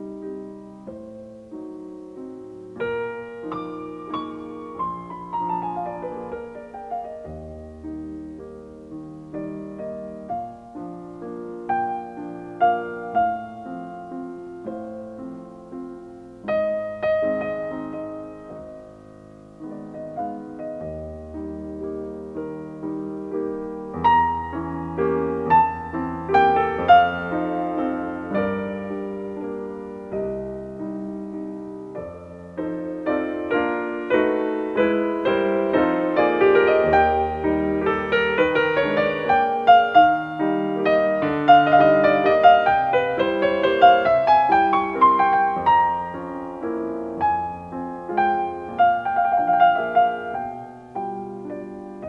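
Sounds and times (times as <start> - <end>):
slow gentle piano music: 0.0 - 52.0.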